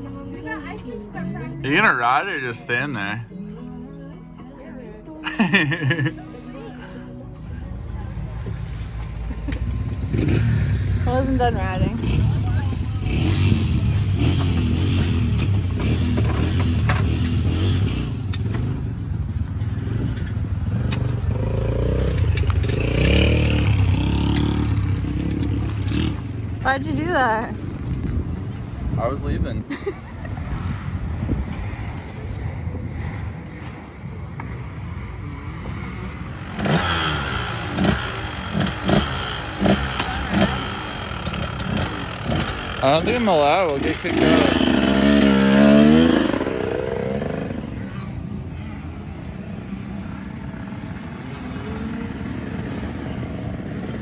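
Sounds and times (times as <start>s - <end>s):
motorcycle engines droning: 0.0s - 54.0s.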